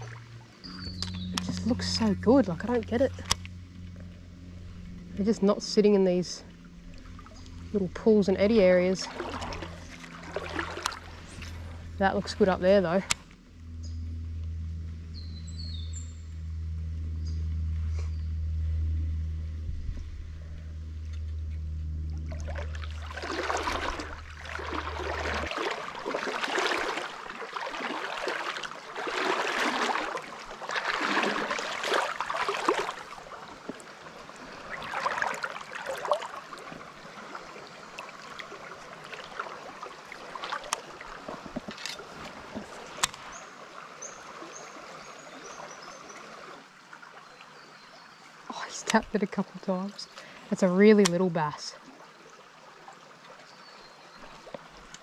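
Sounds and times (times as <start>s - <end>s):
water sloshing with wading steps: 0.0s - 13.6s, 19.5s - 55.0s
low steady rumble: 0.0s - 46.5s
creek flowing: 0.0s - 55.0s.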